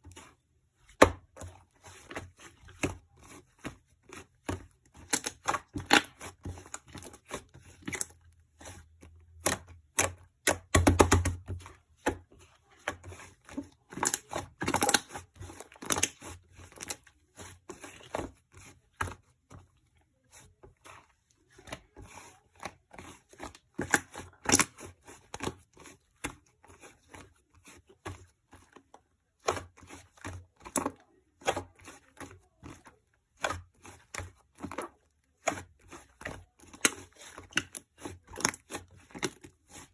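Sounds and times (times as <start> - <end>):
clicking and crinkling objects: 0.0 - 39.9.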